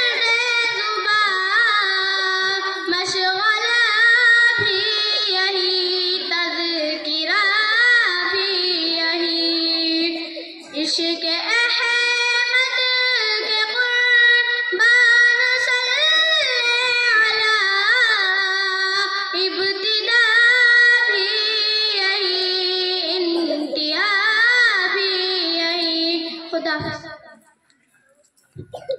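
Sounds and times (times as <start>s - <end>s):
girl singing into microphone: 0.0s - 27.3s.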